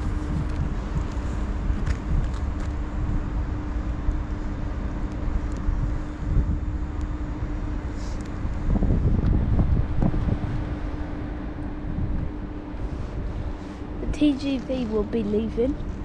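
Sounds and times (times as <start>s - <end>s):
locomotive hum: 0.0s - 16.0s
train rumbling: 0.0s - 16.0s.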